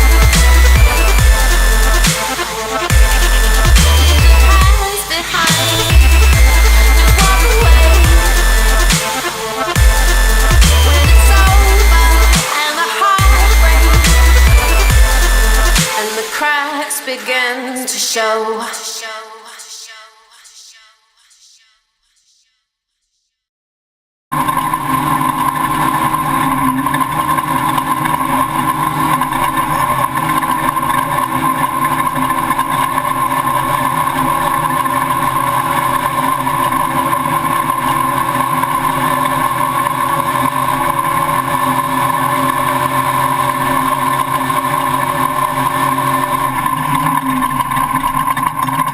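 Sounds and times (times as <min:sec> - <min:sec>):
truck engine running: 0:00.0 - 0:16.5, 0:24.3 - 0:48.9.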